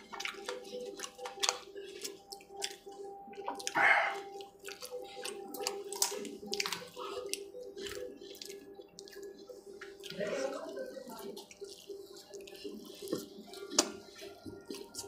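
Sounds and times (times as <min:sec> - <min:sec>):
man chewing and lip-smacking: 0:00.0 - 0:15.0.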